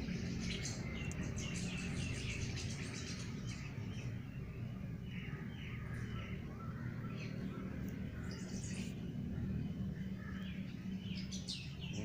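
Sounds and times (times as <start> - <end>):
flock of starlings chirping: 0.0 - 12.0.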